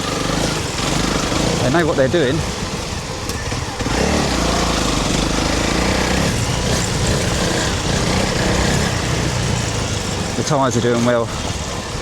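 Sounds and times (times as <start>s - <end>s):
motorcycle engine under throttle: 0.0s - 12.0s
wind: 0.0s - 12.0s.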